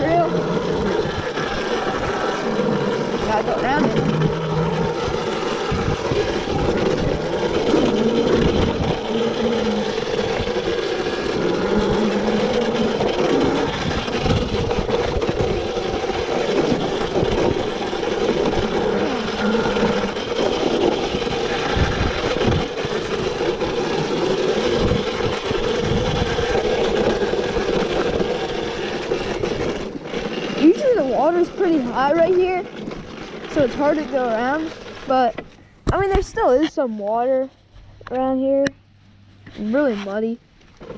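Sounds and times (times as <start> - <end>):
electric motorbike whine: 0.0 - 35.7, 39.7 - 40.9
wind buffeting: 0.0 - 37.2.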